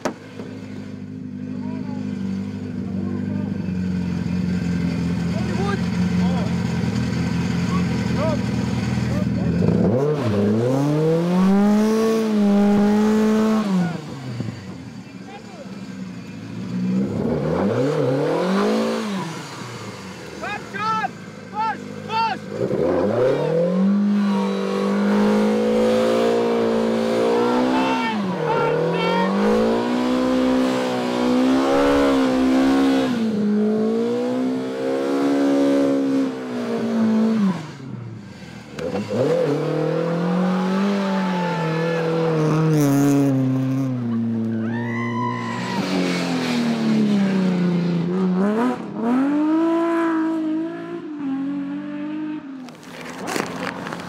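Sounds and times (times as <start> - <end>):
rally car engines revving hard: 0.0 - 44.6, 45.4 - 54.0.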